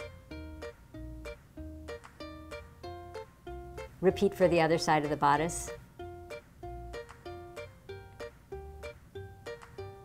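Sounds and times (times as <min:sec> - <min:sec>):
plucked-string melody: 0:00.0 - 0:10.0
soft bass: 0:00.0 - 0:10.0.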